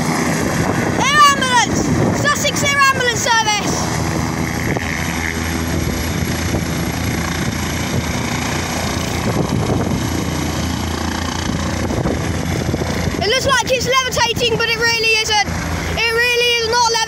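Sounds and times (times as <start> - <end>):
helicopter hovering: 0.0 - 17.0.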